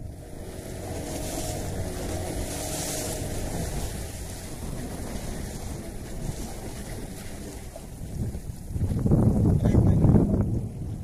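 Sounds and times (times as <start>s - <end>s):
wind buffeting microphone: 0.0s - 11.0s
water washing: 0.2s - 9.4s.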